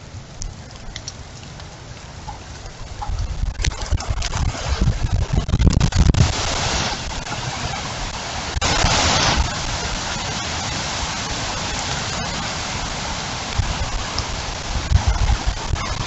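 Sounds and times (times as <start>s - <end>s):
heavy rain pouring: 0.0s - 16.0s
wind rumble on microphone: 0.0s - 16.0s.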